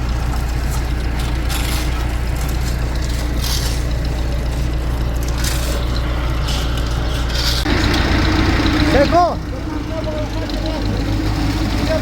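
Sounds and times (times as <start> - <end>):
machinery engine running: 0.0 - 12.0.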